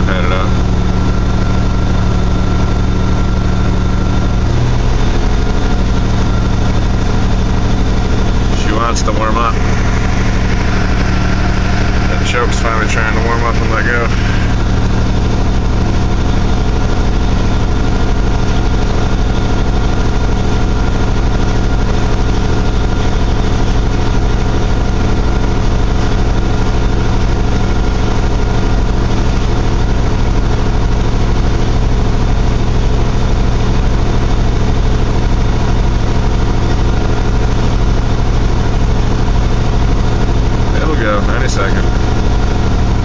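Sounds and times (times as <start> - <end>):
car engine fast idling: 0.0 - 43.0.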